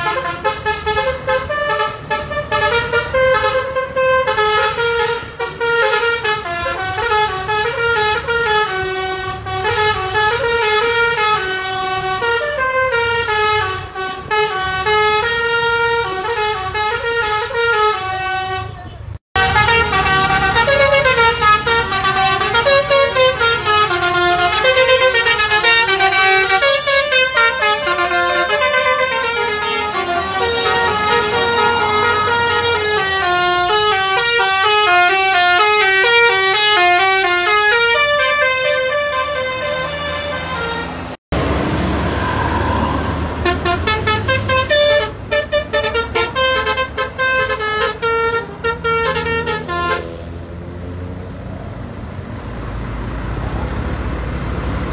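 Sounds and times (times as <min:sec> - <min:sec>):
multi-tone bus horn playing tune: 0:00.0 - 0:41.2, 0:42.2 - 0:50.5
engine and road noise: 0:00.0 - 0:54.9.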